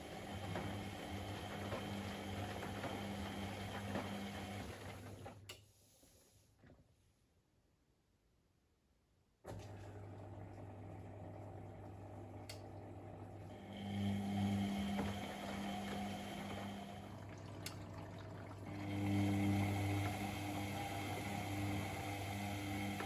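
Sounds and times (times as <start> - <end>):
washing machine pump humming: 0.0 - 5.4, 9.5 - 23.0
washing machine water noise: 0.0 - 5.5, 9.5 - 23.0.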